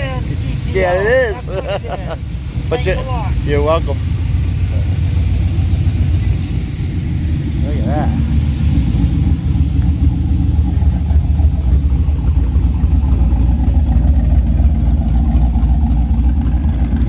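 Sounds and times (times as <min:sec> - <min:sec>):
car engine deep rumble: 0:00.0 - 0:17.0.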